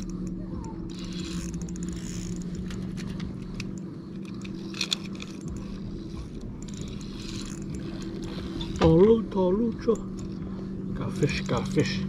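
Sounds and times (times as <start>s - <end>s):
light clicking and rattling: 0.0s - 12.0s
steady low hum: 0.0s - 12.0s.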